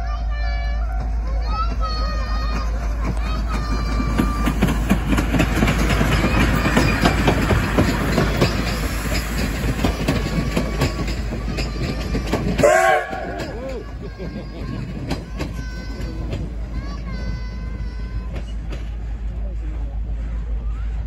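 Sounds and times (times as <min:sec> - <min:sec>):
train wheels clattering on rails: 0:00.6 - 0:20.9.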